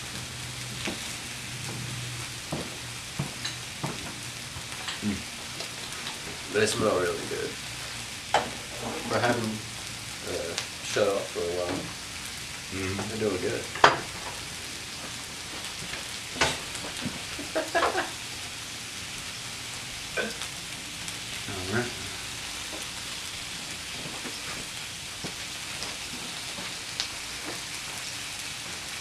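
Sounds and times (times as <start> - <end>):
burgers sizzling: 0.0 - 29.0.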